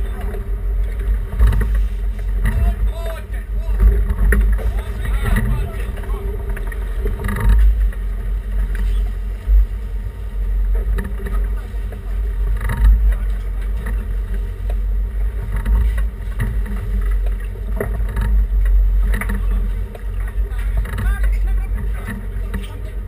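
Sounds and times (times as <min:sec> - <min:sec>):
boat engines rumbling: 0:00.0 - 0:23.0
sea against hull: 0:00.0 - 0:23.0
wind buffeting microphone: 0:00.0 - 0:23.0.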